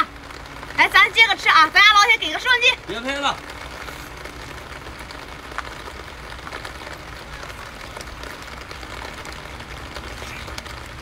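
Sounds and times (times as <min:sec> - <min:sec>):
light rain hissing: 0:00.0 - 0:11.0.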